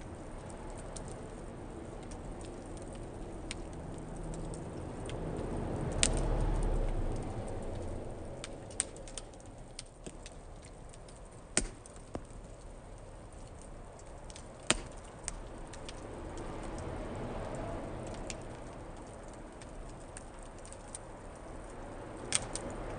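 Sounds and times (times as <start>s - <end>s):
low rush of flame: 0.0s - 22.9s
wood fire crackling and popping: 0.0s - 22.9s.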